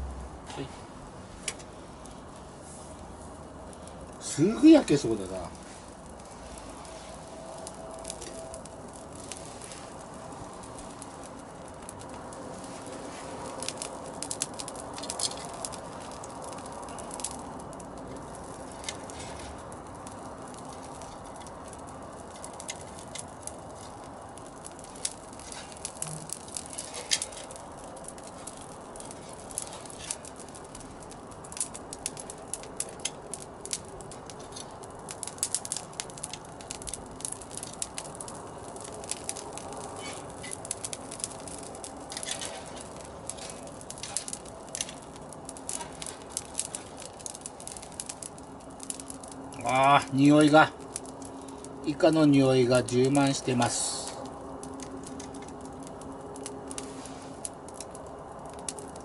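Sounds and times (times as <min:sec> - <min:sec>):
sharp pops and crackles: 0:00.0 - 0:59.0.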